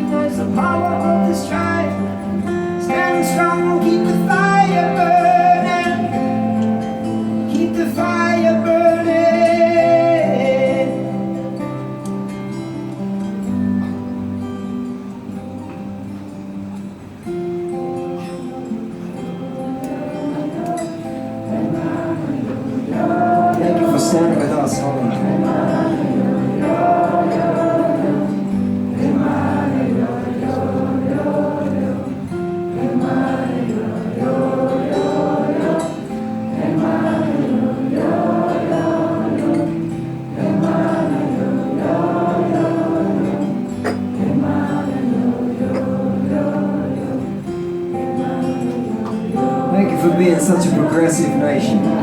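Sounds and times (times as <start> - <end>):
many voices singing wordless melody: 0.0 - 11.8, 18.8 - 52.0.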